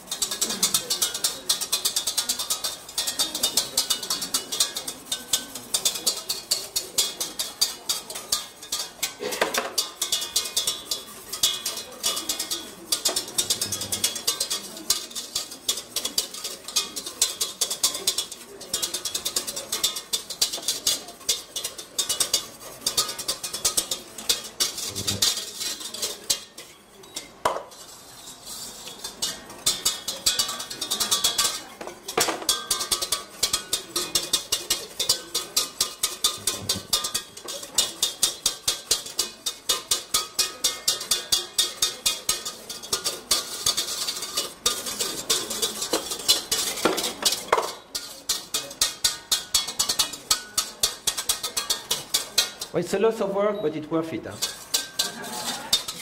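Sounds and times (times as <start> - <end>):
whisk beating in a saucepan: 0.0 - 56.0
whisk clanking against pan: 0.0 - 56.0.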